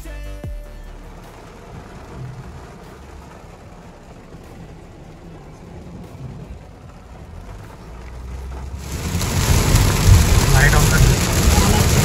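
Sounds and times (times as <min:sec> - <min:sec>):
car road rumble: 0:00.0 - 0:12.0
heavy rain pounding on car: 0:00.0 - 0:12.0.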